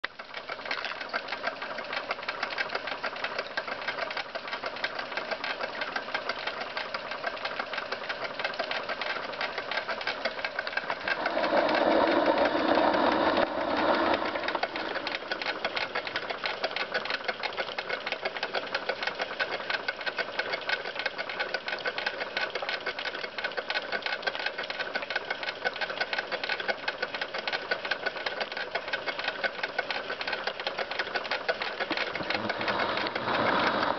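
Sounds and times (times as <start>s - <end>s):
toy steam engine clattering: 0.2s - 33.9s.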